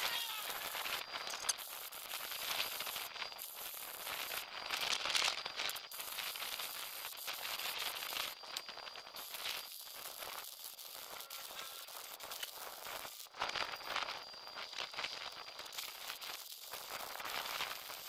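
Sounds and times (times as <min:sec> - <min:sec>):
arc welding crackling hiss: 0:00.0 - 0:18.0.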